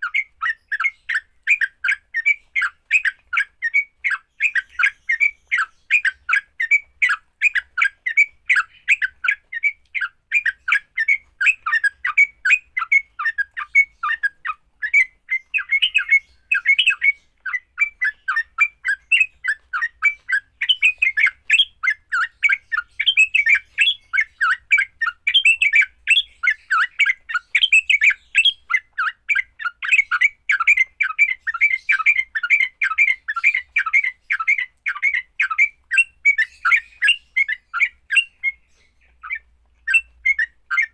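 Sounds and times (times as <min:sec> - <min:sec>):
birds chattering and squawking: 0:00.0 - 0:40.9.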